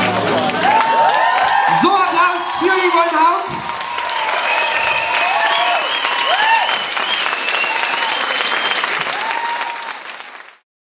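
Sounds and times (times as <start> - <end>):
audience applauding: 0.0 - 10.6
cheers and whoops: 0.3 - 10.1.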